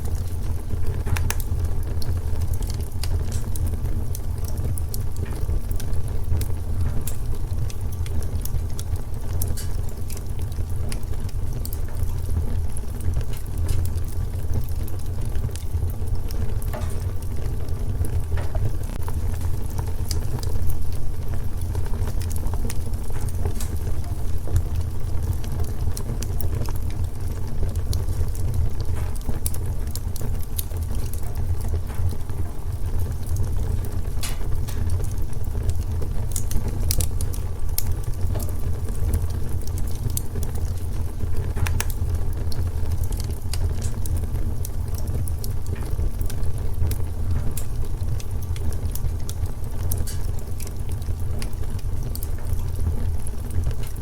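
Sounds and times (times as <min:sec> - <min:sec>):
fire rumbling with crackles: 0:00.0 - 0:54.0.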